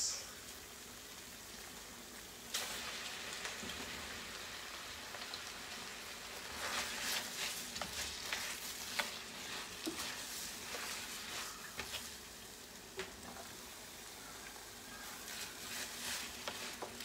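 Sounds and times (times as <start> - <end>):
pasta sizzling in a pot: 0.0 - 17.0.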